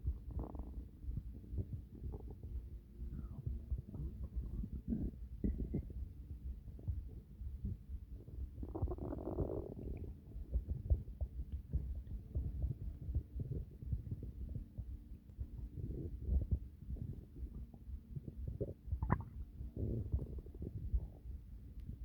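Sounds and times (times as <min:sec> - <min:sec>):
stomach growling: 0:00.0 - 0:21.9.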